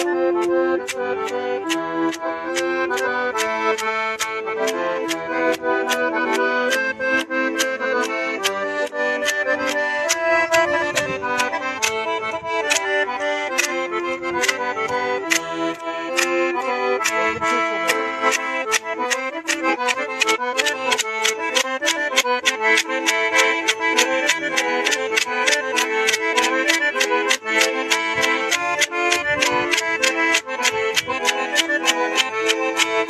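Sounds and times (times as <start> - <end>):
accordion playing fast tune: 0.0 - 33.0.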